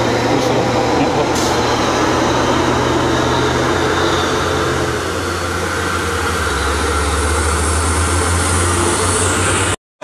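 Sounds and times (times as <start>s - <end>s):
truck diesel engine passing: 0.0s - 9.8s.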